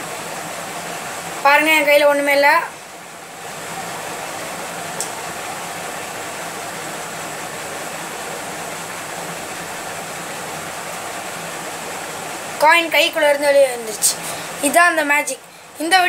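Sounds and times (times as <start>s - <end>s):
steady noise hiss: 0.0s - 16.0s.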